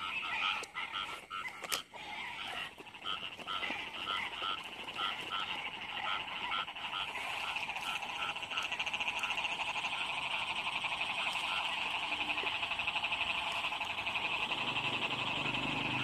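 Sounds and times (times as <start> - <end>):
fast-pulsing frog trill: 0.0 - 16.0
frogs croaking: 0.0 - 16.0.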